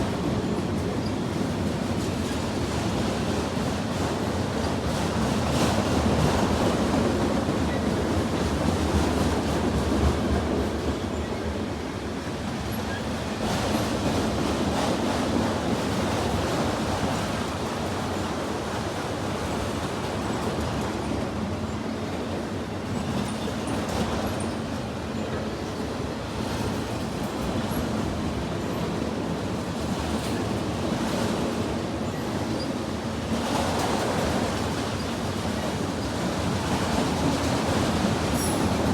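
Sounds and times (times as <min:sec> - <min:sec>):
freight train wheels rumbling on rails: 0:00.0 - 0:38.9.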